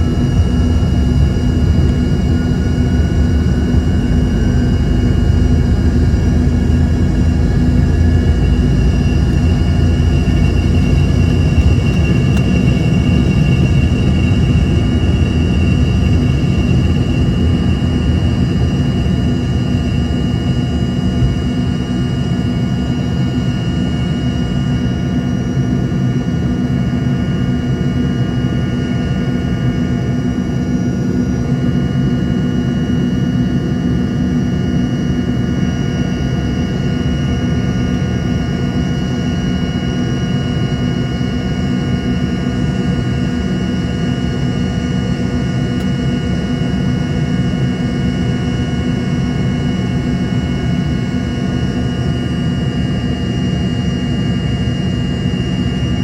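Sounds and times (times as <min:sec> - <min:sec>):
jet engines heard from cabin: 0:00.0 - 0:56.0.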